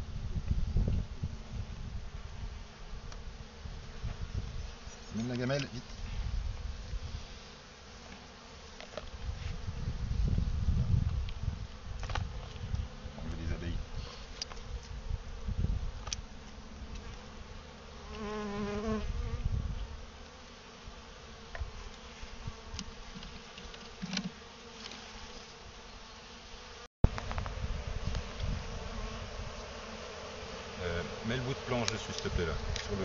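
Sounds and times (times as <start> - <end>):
bee buzzing close by: 0.0 - 33.0
bees buzzing: 1.1 - 33.0.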